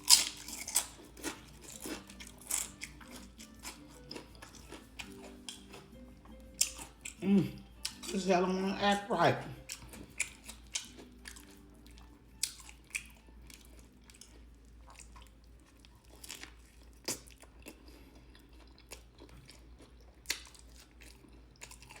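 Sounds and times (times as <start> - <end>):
chewing crunchy sandwich: 0.0 - 8.3, 9.4 - 22.0.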